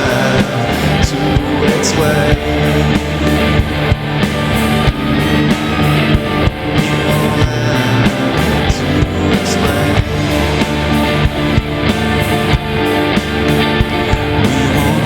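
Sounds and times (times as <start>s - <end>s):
drums steady beat: 0.0s - 15.0s
rock band instrumental: 0.0s - 15.0s.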